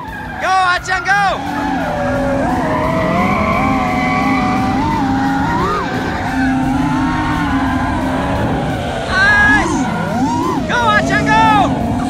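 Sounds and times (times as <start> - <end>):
car engines at high revs: 0.0 - 12.0.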